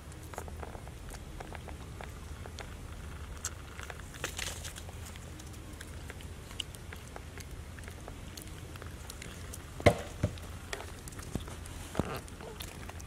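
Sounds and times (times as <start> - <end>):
low steady hum: 0.0 - 13.0
rustling: 0.0 - 13.0.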